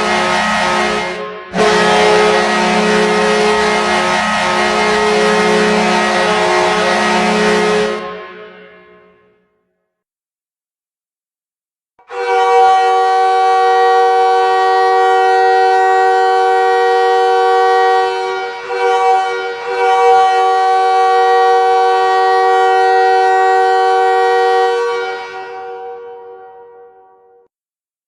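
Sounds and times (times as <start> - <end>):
goal horn blast: 0.0 - 9.3, 12.0 - 26.4.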